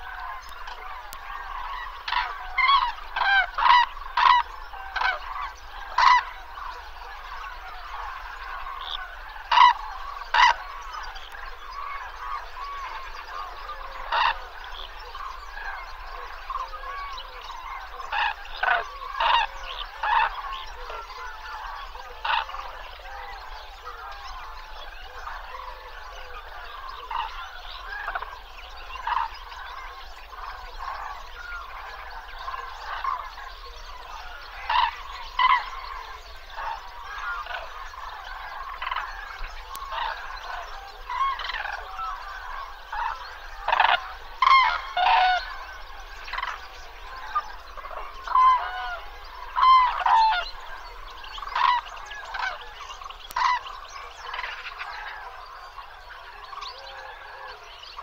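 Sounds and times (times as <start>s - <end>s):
flock of birds calling: 0.0s - 58.0s.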